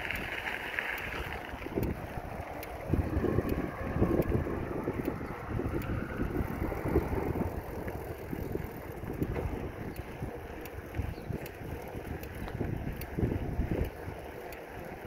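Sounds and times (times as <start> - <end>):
bicycle tyres rolling on trail: 0.0 - 15.0
wind buffeting microphone: 0.0 - 15.0.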